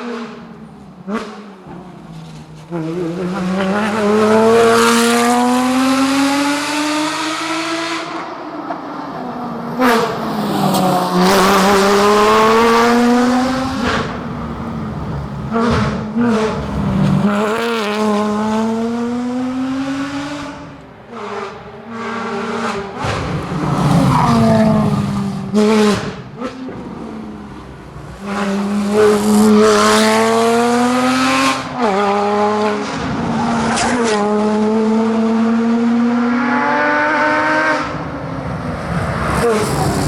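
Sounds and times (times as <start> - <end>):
car engine revving through gears: 0.0 - 40.0.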